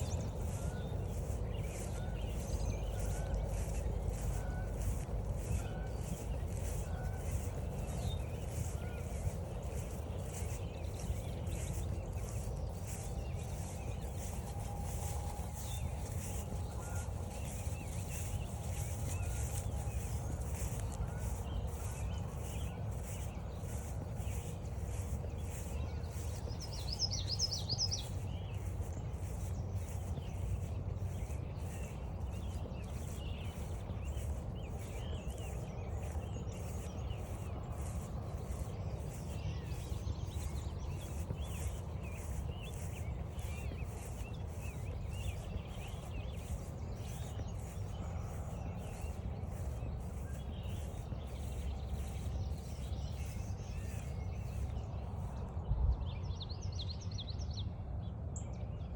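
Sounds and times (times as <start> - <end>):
footsteps walking: 0.0 - 55.2
birds singing and calling: 0.0 - 57.5.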